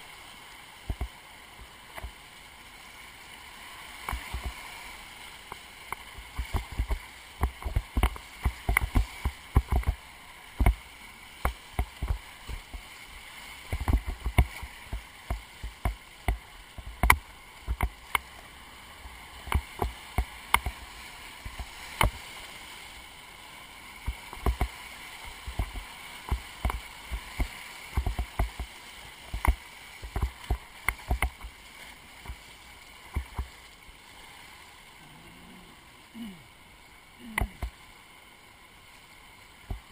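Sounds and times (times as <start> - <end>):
waves thumping a kayak hull: 0.0 - 2.4, 3.4 - 38.0, 38.9 - 39.9
whitewater rapids rushing: 1.0 - 39.9.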